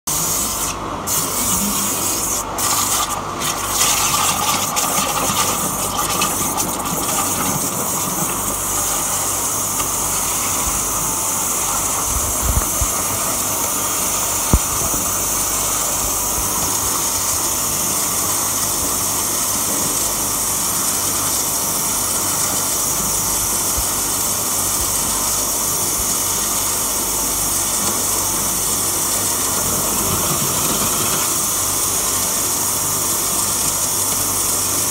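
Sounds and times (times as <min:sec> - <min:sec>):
waterjet cutter hissing: 0:00.0 - 0:34.9.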